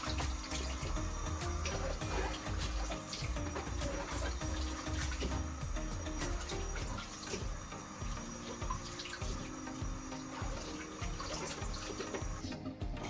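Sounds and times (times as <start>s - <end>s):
background music: 0.0s - 13.0s
tap running into sink: 0.0s - 13.0s.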